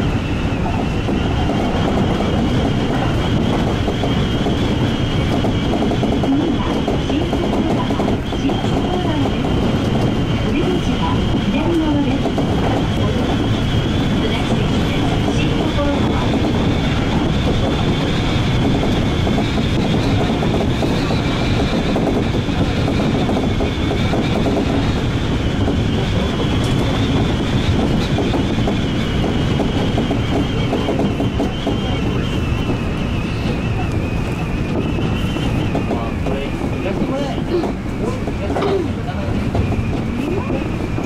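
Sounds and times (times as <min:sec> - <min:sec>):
electric train running: 0:00.0 - 0:41.0.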